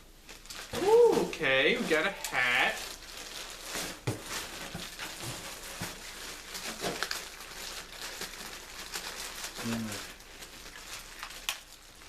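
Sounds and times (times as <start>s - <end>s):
packaging rustling and crinkling: 0.2s - 12.0s.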